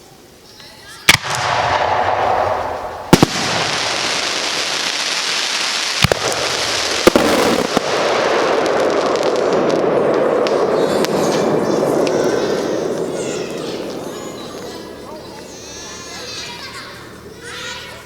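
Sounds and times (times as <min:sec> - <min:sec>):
fireworks bangs: 0:01.0 - 0:18.0.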